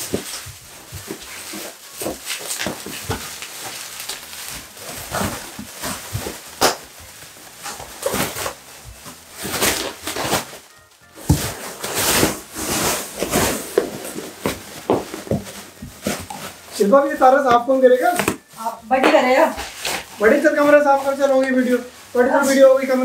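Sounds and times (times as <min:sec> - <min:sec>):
background music: 0:00.0 - 0:23.0
bubble wrap crinkling and popping: 0:00.0 - 0:23.0.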